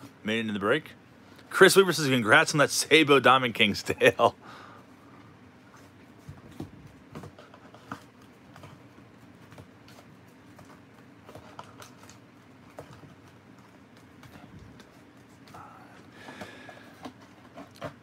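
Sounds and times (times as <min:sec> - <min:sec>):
faint rustling of card packs: 0:00.0 - 0:18.0.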